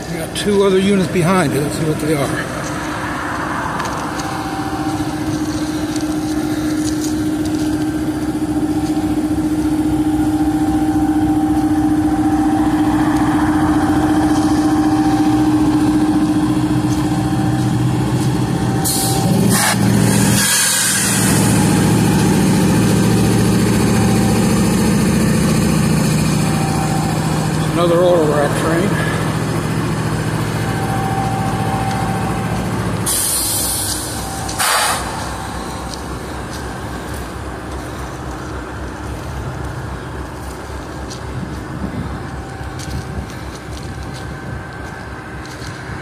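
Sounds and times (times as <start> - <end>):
diesel locomotives idling: 0.0 - 46.0.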